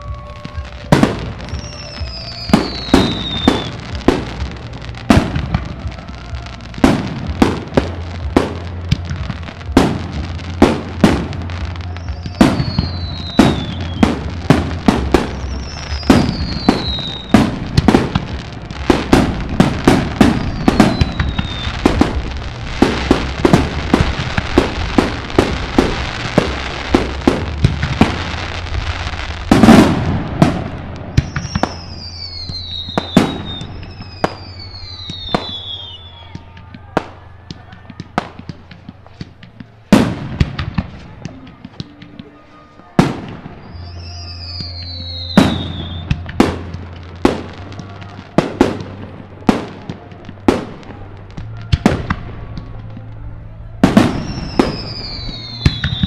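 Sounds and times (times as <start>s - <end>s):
falling fireworks whistles: 0.0s - 56.0s
fireworks bursting: 0.0s - 56.0s
fireworks crackle: 0.0s - 56.0s.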